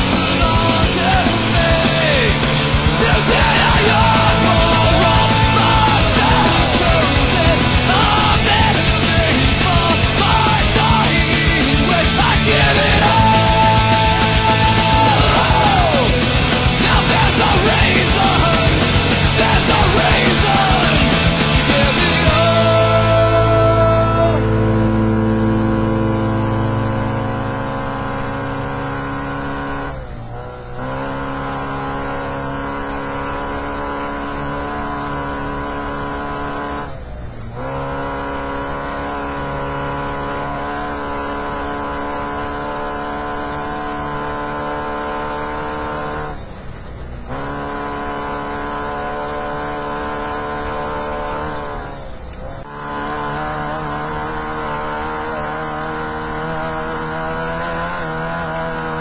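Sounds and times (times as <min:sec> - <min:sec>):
road and wind noise: 0:00.0 - 0:59.0
truck engine running hard: 0:00.0 - 0:59.0.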